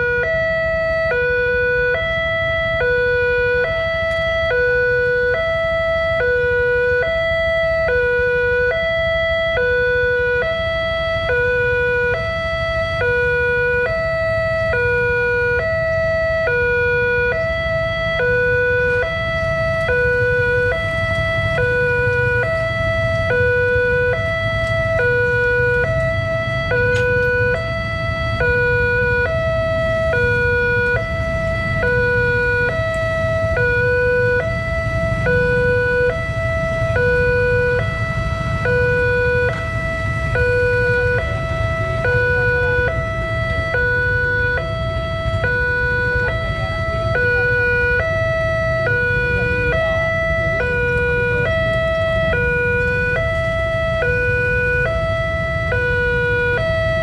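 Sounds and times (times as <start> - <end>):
level crossing two-tone alarm: 0.0 - 57.0.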